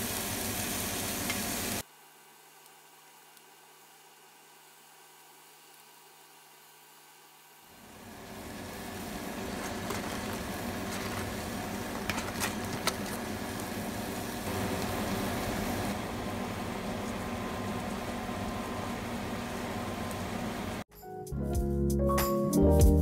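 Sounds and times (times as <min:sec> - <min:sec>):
kitchen fan hum: 0:00.0 - 0:20.9.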